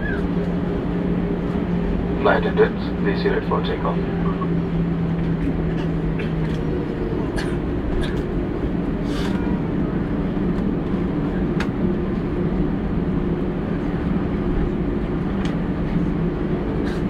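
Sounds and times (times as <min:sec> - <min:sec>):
jet engines roaring in cabin: 0:00.0 - 0:17.0.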